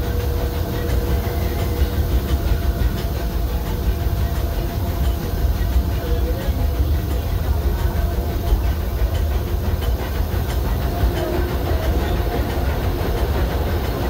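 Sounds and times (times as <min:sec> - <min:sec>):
train rumbling: 0:00.0 - 0:14.0
wheels clicking over rails: 0:00.0 - 0:14.0.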